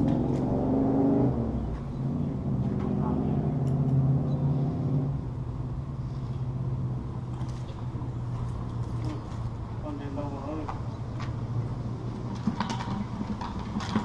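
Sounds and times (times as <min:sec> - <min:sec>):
traffic rumbling over bridge: 0:00.0 - 0:14.0.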